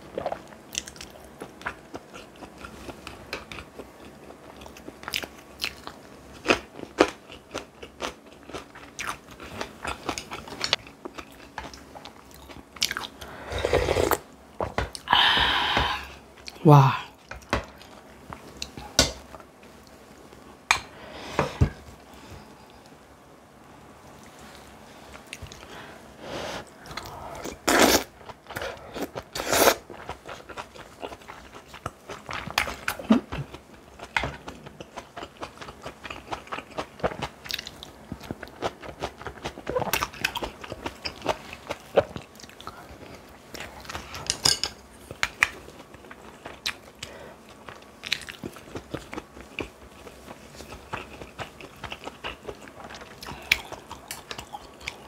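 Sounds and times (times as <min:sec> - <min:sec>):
person chewing and crunching food: 0:00.0 - 0:20.0, 0:24.2 - 0:55.0.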